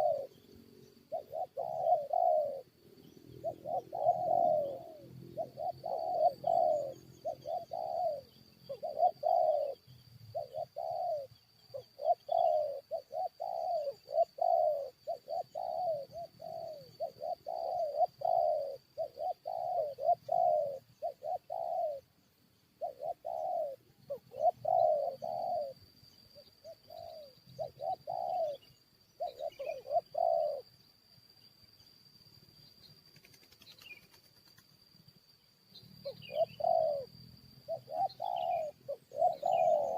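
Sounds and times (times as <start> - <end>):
doves cooing: 0.0 - 22.1, 22.8 - 25.8, 26.4 - 30.7, 36.0 - 39.9
faint small-bird chirps: 0.0 - 39.9.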